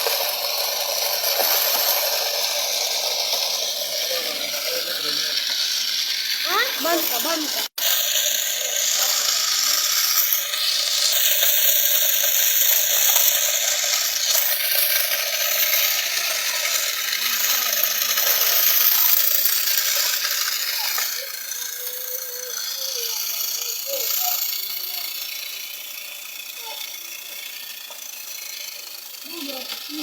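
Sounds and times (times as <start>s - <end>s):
toy thresher mechanical rattle: 0.0s - 30.0s.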